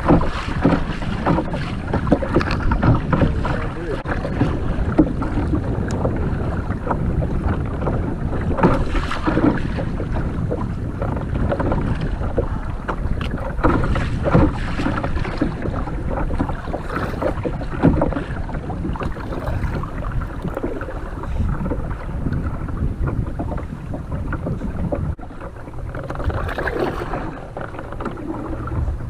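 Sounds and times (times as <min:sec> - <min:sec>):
paddle strokes splashing: 0:00.0 - 0:29.0
water rushing along hull: 0:00.0 - 0:29.0.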